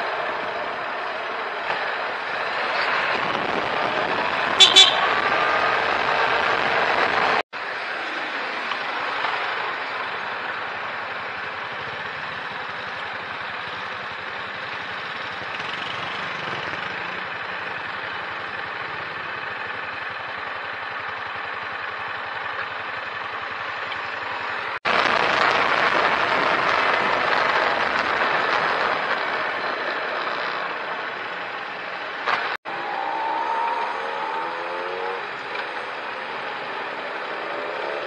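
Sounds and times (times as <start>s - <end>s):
vehicle and traffic noise: 0.0s - 38.0s.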